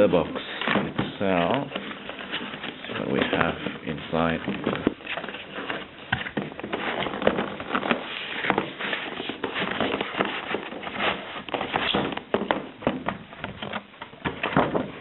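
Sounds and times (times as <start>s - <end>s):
cardboard packaging rustling: 0.0s - 15.0s.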